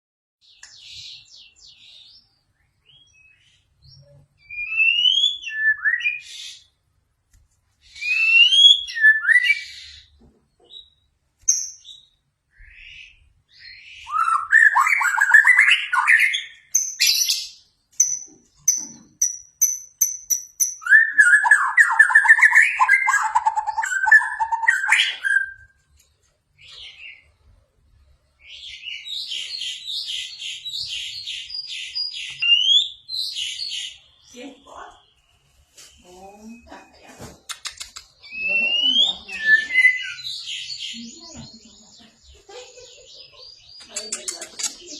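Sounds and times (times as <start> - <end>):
songbird singing: 0.4 - 7.0, 7.8 - 44.9.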